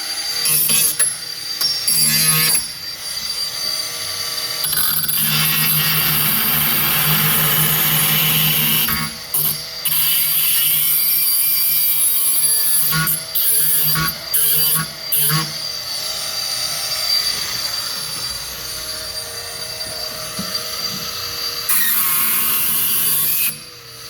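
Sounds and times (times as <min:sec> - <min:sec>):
small grinder grinding steel: 0:00.0 - 0:24.0.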